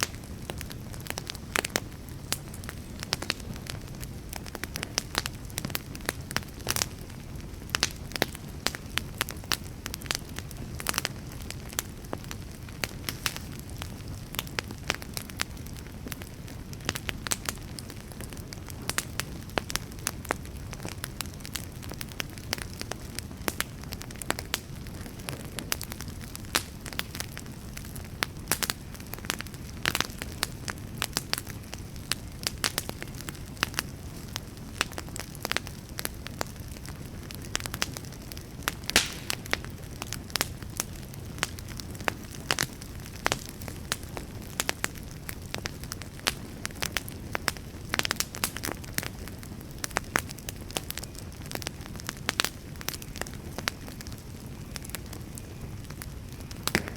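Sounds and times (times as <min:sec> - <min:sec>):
burning logs crackling: 0:00.0 - 0:56.9
fire low rumble: 0:00.0 - 0:56.9.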